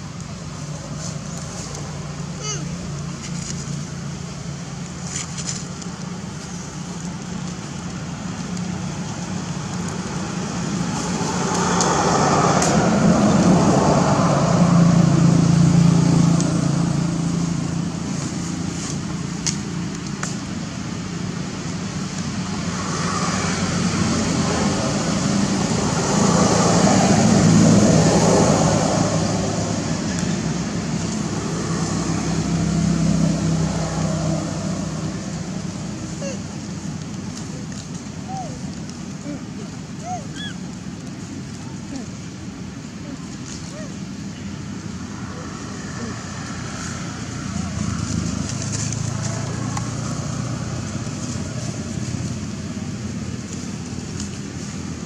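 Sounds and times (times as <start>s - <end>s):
traffic engine hum: 0.0s - 55.0s
vehicles passing road noise: 0.0s - 55.0s.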